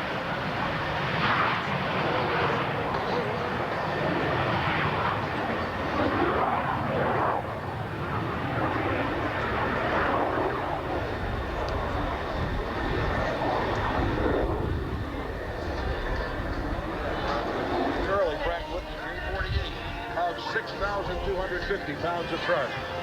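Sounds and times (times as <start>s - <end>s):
aircraft flying past: 0.0s - 23.0s.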